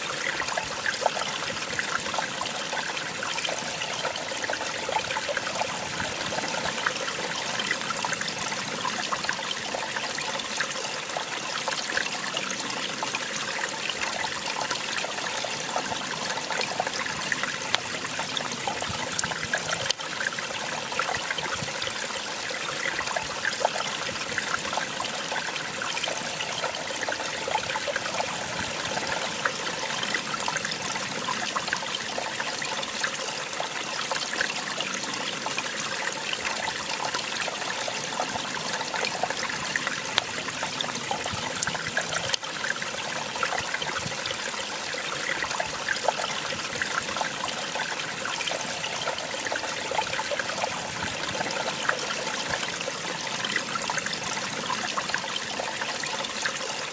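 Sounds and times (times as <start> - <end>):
small waterfall splashing: 0.0 - 56.9.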